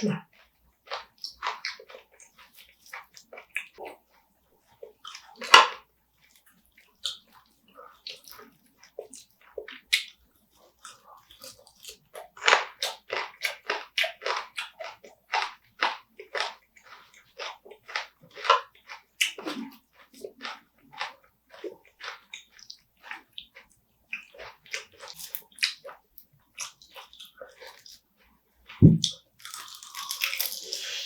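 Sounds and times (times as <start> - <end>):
chewing and crunching: 0.0 - 31.0.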